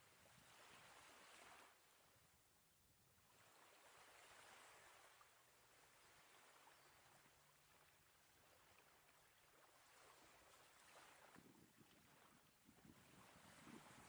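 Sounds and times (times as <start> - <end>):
small waves lapping: 0.0 - 2.4, 3.1 - 14.0.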